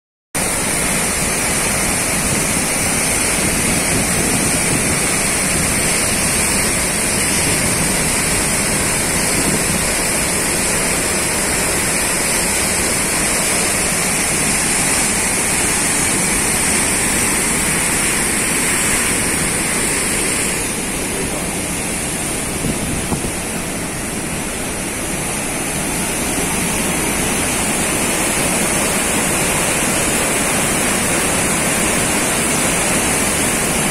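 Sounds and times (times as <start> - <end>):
fast-flowing floodwater rushing: 0.4 - 33.9.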